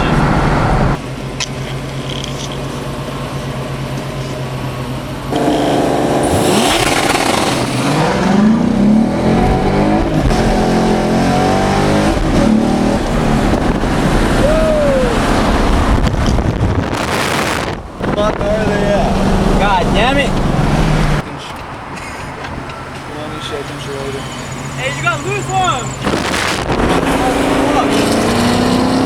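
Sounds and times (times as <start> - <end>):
car engine accelerating and revving: 0.0 - 3.4, 5.3 - 21.6, 22.4 - 29.0.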